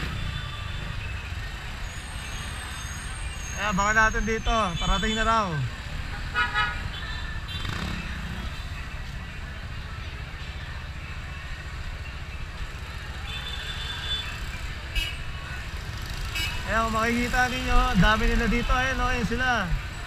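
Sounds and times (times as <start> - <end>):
motorcycle and car engines: 0.0 - 20.0.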